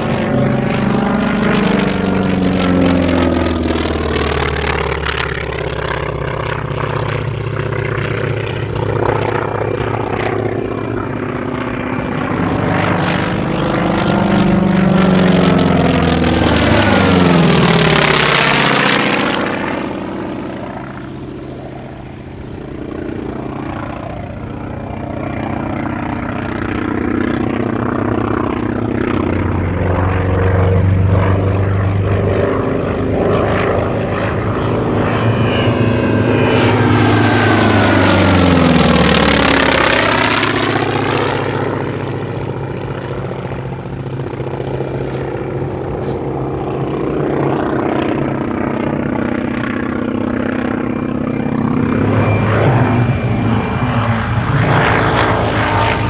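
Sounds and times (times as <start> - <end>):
plane passing overhead: 0.0 - 56.0
propeller plane engine: 0.0 - 56.0.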